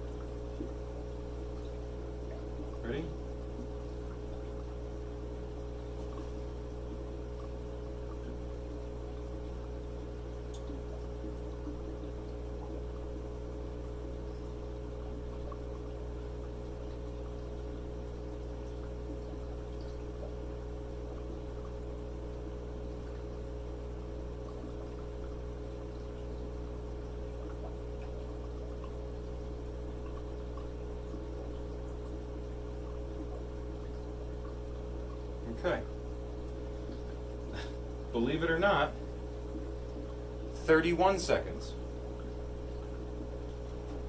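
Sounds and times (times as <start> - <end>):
air bubbling through water: 0.0 - 40.6, 41.8 - 44.0
aquarium air pumps humming: 0.0 - 44.0.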